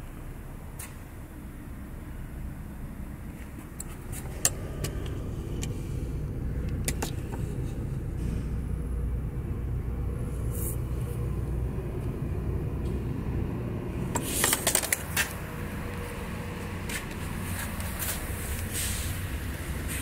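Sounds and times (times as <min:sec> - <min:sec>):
low vehicle rumble: 0:00.0 - 0:20.0.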